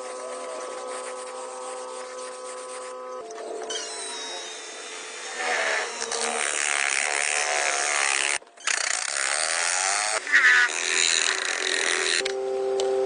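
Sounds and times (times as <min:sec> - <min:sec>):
power tool buzzing: 0:00.0 - 0:12.4.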